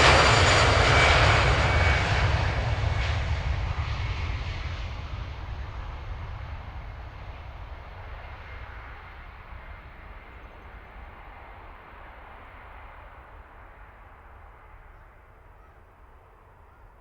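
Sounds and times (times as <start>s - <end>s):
jet engines rushing and rumbling: 0.0s - 14.8s.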